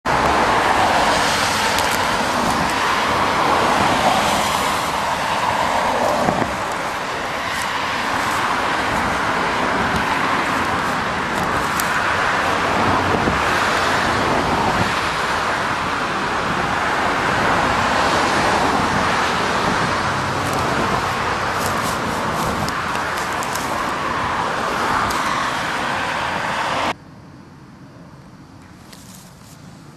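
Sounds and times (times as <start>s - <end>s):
cars passing: 0.0s - 27.0s.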